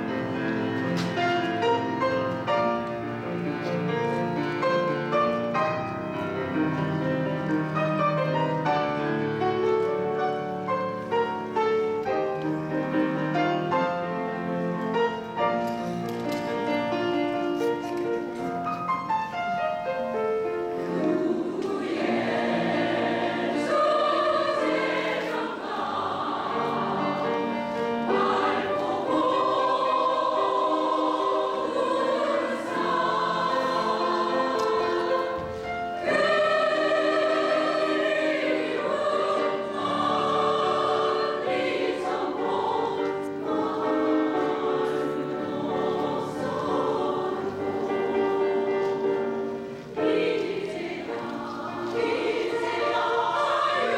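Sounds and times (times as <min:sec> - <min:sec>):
piano accompaniment: 0:00.0 - 0:53.9
women's choir singing in harmony: 0:00.0 - 0:53.9.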